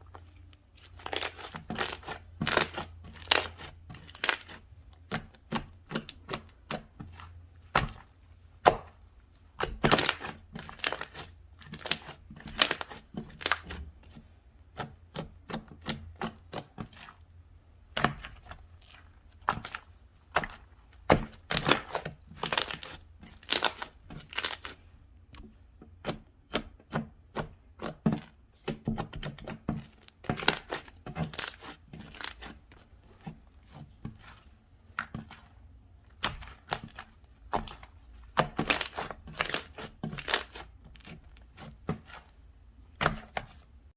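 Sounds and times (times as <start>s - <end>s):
slime squishing with sticky pops: 0.0s - 43.9s.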